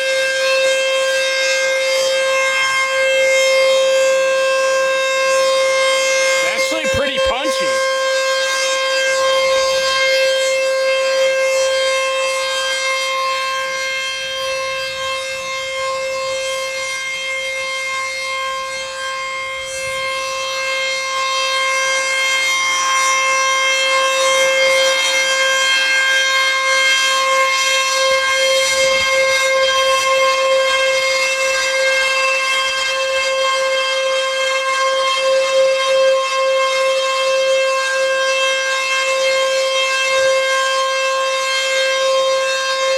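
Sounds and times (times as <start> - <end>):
warning siren steady tone: 0.0 - 42.9.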